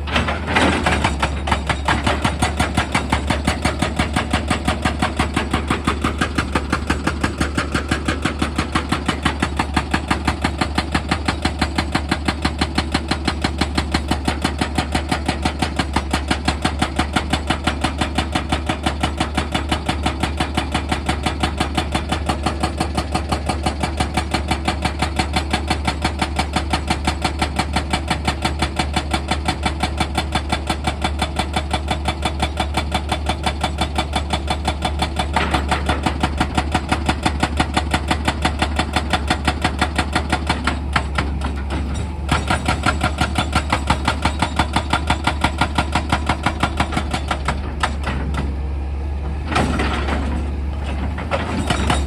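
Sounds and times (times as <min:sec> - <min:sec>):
excavator pounding: 0:00.0 - 0:52.0.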